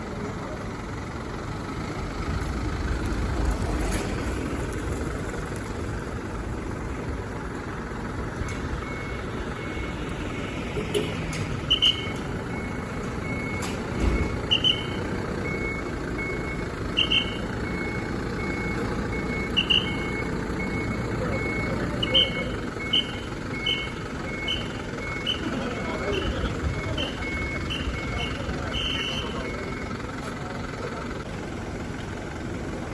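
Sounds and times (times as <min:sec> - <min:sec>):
fire engine idling: 0:00.0 - 0:32.9.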